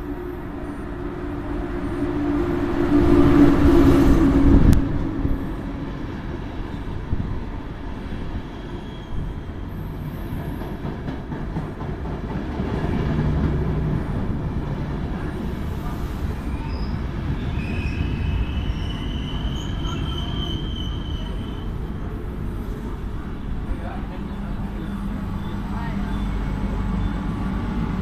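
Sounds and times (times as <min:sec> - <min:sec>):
electric locomotive humming: 0:00.0 - 0:28.0
train wheels rumbling on rails: 0:00.8 - 0:28.0.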